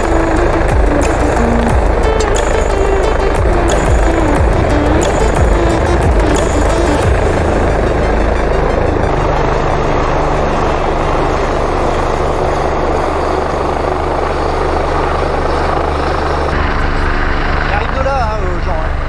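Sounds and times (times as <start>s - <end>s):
helicopter hovering: 0.0s - 19.0s.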